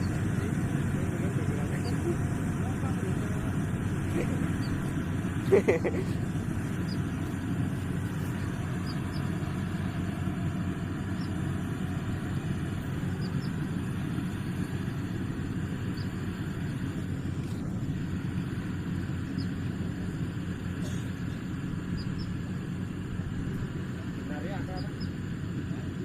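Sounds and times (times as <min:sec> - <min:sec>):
combine harvester droning: 0:00.0 - 0:26.0.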